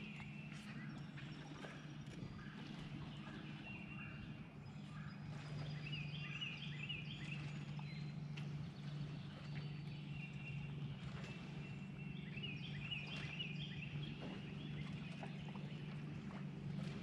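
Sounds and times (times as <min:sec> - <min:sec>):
birds chirping and singing: 0:00.0 - 0:16.1
low hum: 0:00.0 - 0:17.0.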